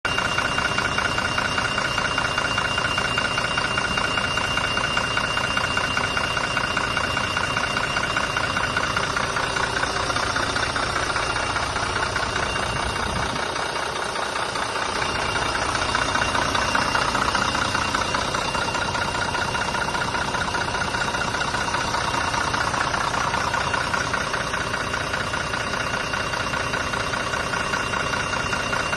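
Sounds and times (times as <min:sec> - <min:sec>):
diesel bus engine idling: 0:00.0 - 0:28.9.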